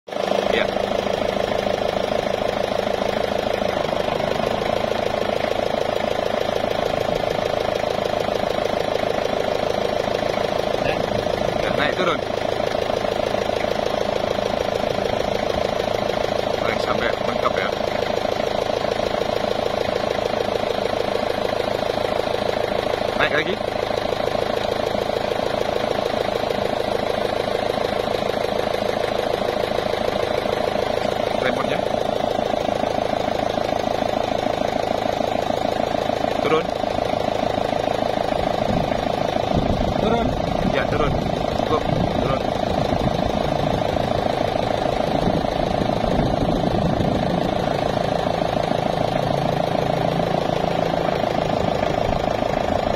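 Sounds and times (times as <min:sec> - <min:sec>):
forklift engine idling: 0:00.1 - 0:52.9.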